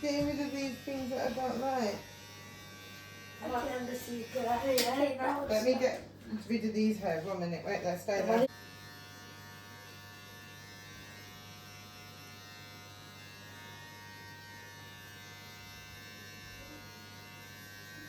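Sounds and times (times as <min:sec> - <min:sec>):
electric shaver buzzing: 0:00.0 - 0:18.0.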